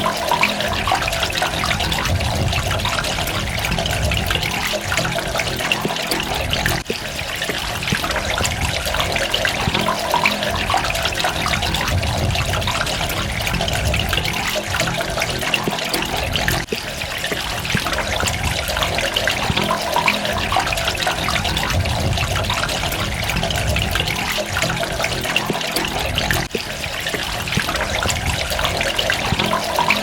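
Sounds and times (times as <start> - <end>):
running water splashing: 0.0 - 30.0.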